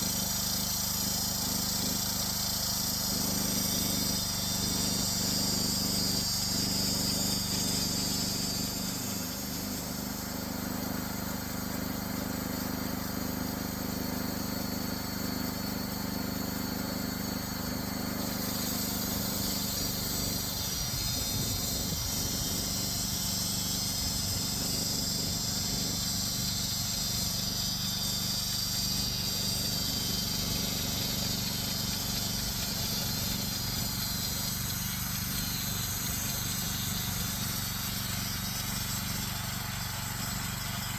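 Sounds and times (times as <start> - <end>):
band sawmill cutting log: 0.0 - 40.9.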